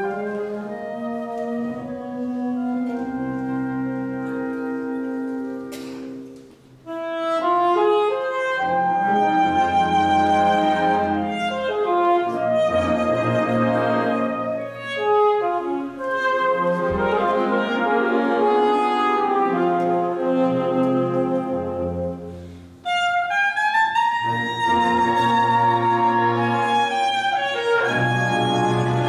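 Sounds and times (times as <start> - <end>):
alto saxophone solo: 0.0 - 29.0
wind band playing: 0.0 - 29.0.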